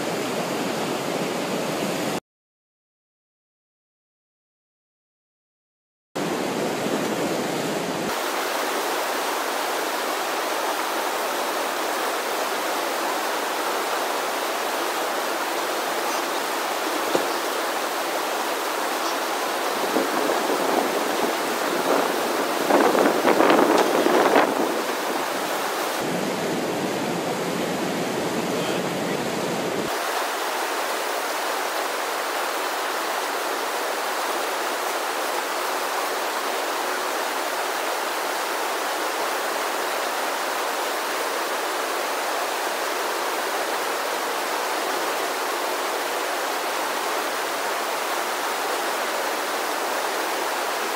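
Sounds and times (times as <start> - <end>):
river whitewater rushing: 0.0 - 2.2, 6.2 - 50.9.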